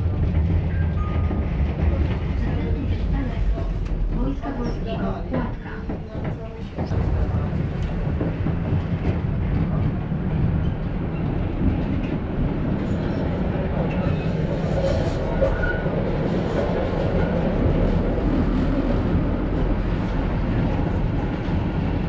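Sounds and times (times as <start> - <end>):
tram running along track: 0.0 - 22.0.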